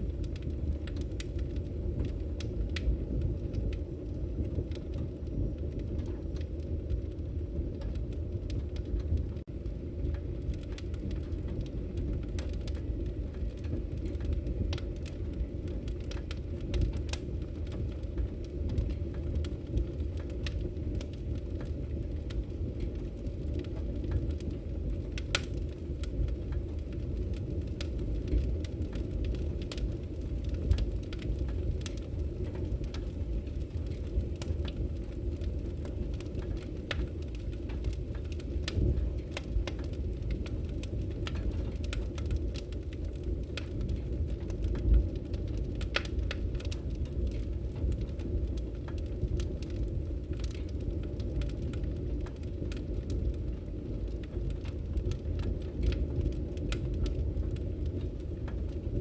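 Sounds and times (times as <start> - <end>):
fire crackling and popping: 0.0 - 59.0
low rumble of flames: 0.0 - 59.0.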